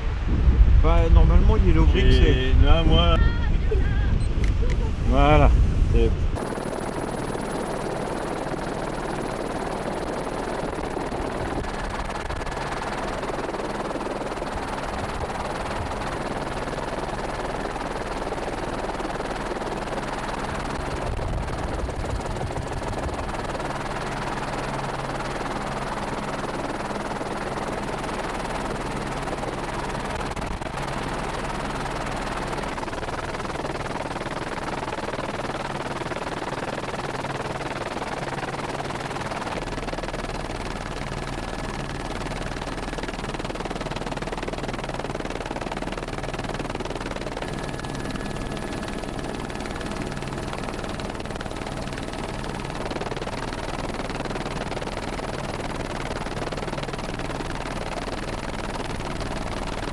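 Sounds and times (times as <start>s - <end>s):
helicopter rotor and engine: 1.1s - 59.9s.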